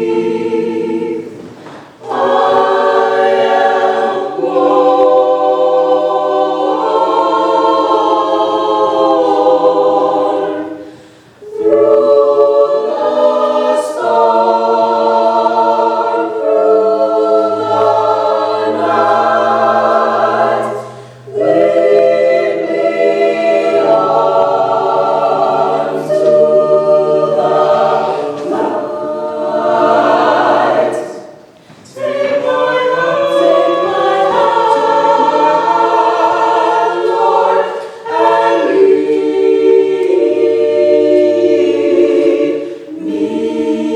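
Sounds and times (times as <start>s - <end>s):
choir singing a cappella: 0.0s - 43.9s.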